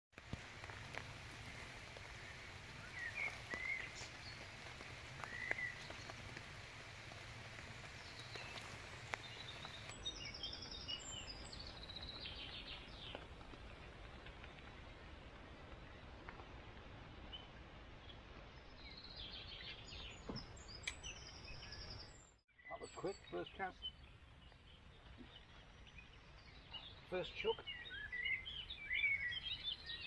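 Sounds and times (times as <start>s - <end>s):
outdoor background hiss: 0.2s - 30.0s
wild birds calling: 0.4s - 14.9s, 18.7s - 30.0s.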